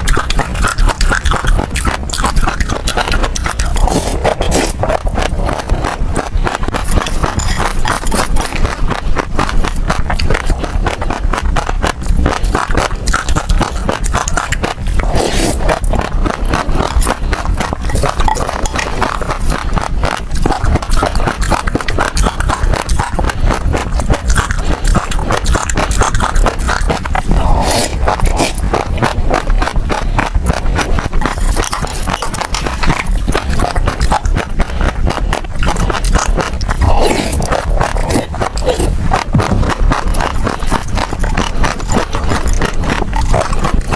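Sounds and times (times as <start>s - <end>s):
seeds crunching while chewed: 0.0s - 43.9s.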